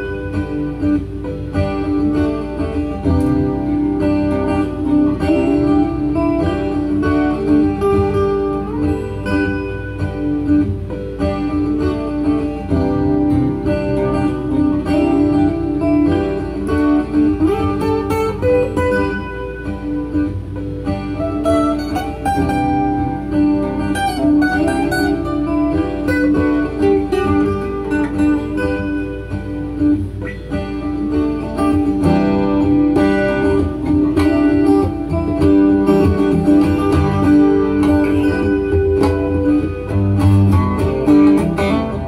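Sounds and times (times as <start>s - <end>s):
looped acoustic guitar: 0.0s - 42.0s.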